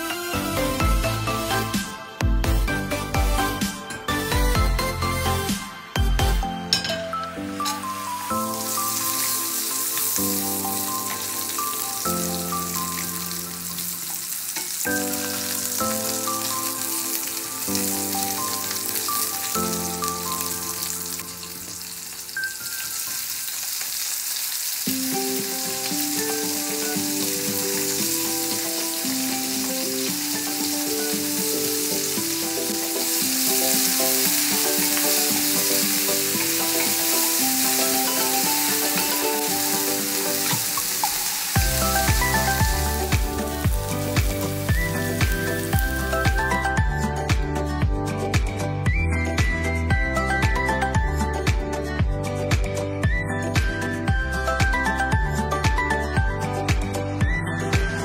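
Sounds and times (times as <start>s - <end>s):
background music: 0.0s - 23.6s, 24.4s - 58.0s
oil sizzling in frying pan: 0.0s - 47.4s.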